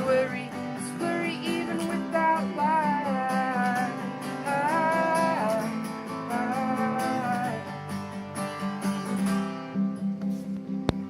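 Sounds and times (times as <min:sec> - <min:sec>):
guitar strummed: 0:00.0 - 0:11.0.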